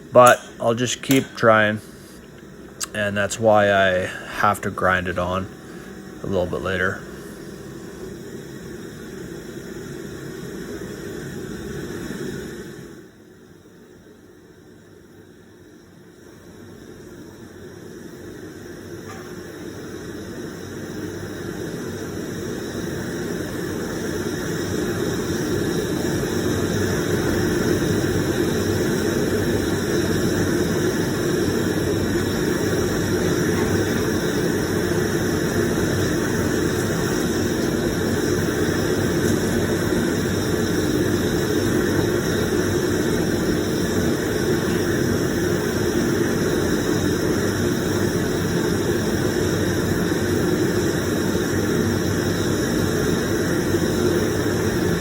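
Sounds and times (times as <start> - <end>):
torch burner roaring: 0.0 - 55.0.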